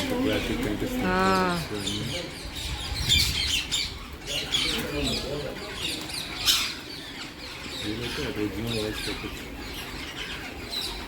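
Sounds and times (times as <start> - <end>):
parakeets squawking: 0.0 - 11.0.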